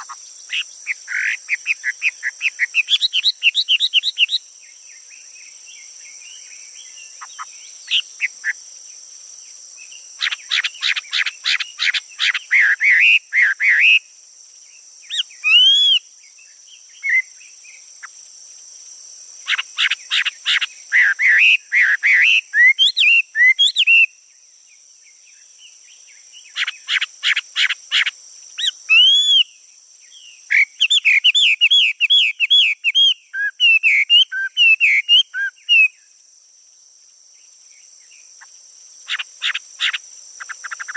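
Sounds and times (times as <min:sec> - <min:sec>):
insects droning: 0:00.0 - 0:40.9
songbird singing: 0:00.0 - 0:40.9.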